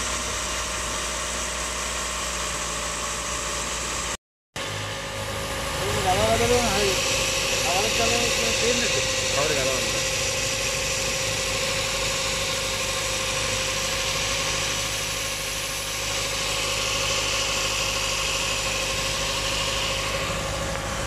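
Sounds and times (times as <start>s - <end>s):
car engine idling: 0.0s - 21.0s
steady belt whine: 0.0s - 21.0s.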